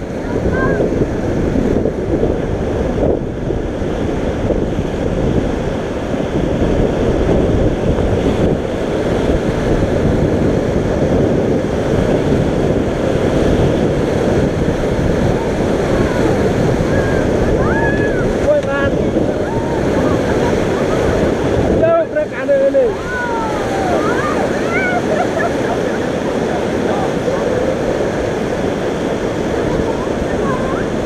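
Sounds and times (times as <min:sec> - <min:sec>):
whitewater rapids roaring: 0:00.0 - 0:31.0.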